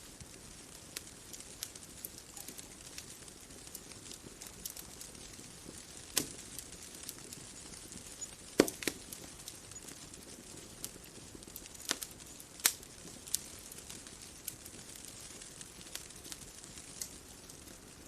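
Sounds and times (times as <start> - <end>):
bonfire crackling and popping: 0.0 - 18.0
faint steady hiss: 0.0 - 18.0.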